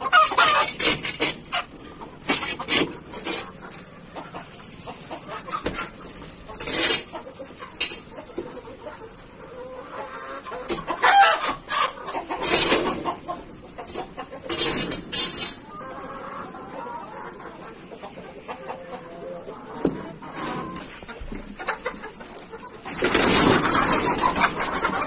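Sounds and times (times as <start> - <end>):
hens clucking: 0.0 - 25.0.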